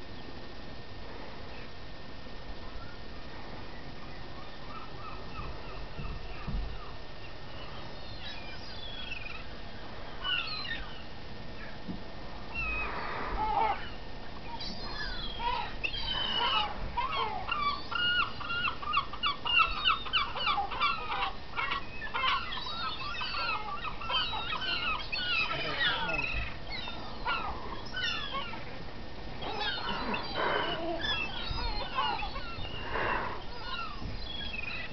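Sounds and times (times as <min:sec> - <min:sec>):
gulls calling: 0:03.7 - 0:34.9.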